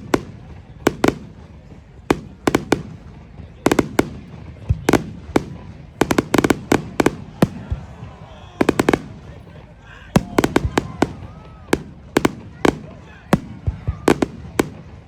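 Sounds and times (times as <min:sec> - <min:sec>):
fireworks cracking bangs: 0:00.0 - 0:15.0.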